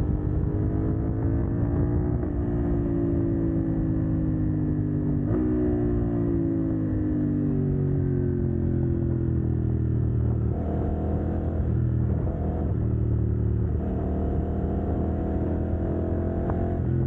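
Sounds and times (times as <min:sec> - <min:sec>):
motorcycle engine revving while riding: 0:00.0 - 0:17.0.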